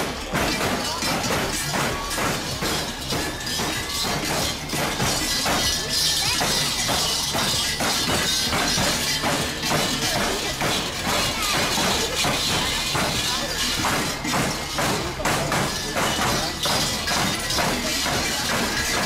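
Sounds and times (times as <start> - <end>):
costume bells clanging: 0.0 - 19.0
loud recorded music: 0.0 - 19.0.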